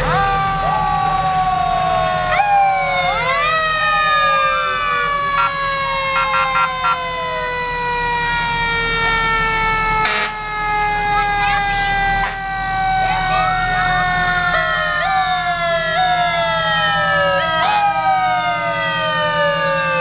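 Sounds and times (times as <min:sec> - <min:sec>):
engine rumble: 0:00.0 - 0:20.0
fire truck sirens wailing: 0:00.0 - 0:20.0.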